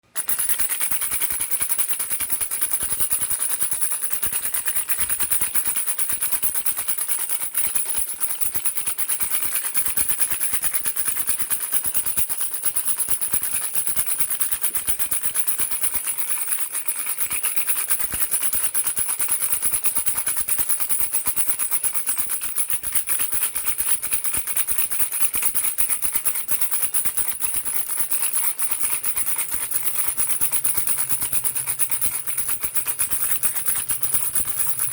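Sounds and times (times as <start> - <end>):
baby rattle shaken: 0.0 - 34.9.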